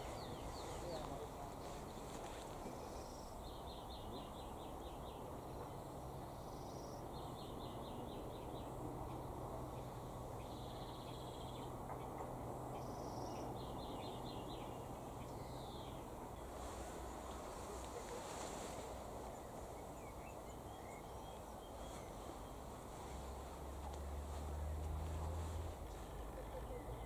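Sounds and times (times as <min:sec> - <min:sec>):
distant birds calling: 0:00.0 - 0:27.0.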